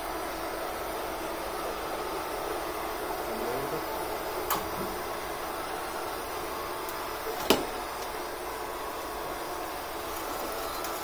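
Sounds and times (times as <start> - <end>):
robot vacuum cleaner running: 0.0 - 11.0.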